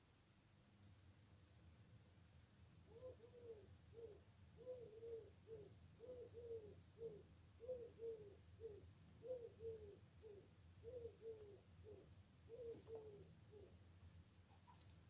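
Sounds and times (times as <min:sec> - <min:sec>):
faint dove cooing: 0:02.8 - 0:15.0.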